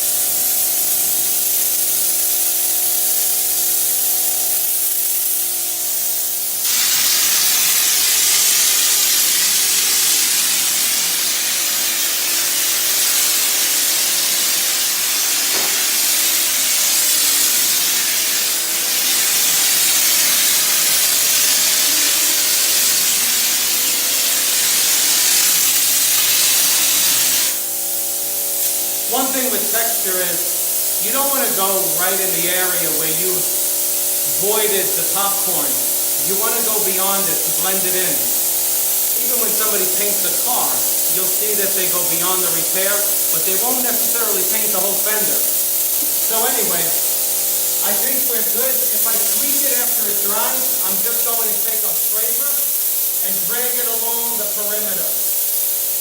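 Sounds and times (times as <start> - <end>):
texture spray gun hissing: 0.0 - 56.0.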